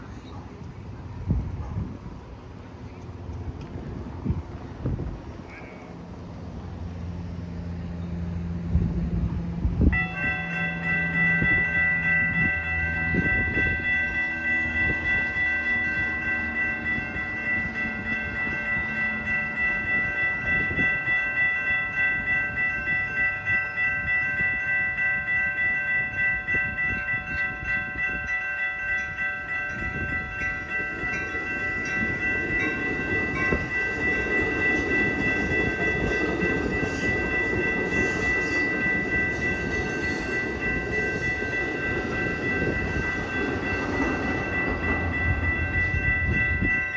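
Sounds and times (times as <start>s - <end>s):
train wheels on rails: 0.0s - 46.9s
railroad crossing bell ringing: 4.7s - 8.6s, 9.8s - 46.9s.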